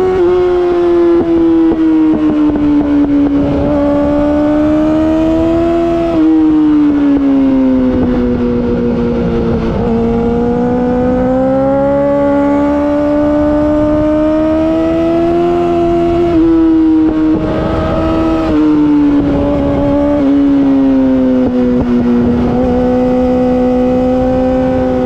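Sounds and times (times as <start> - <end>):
motorcycle engine revving high: 0.0 - 25.0.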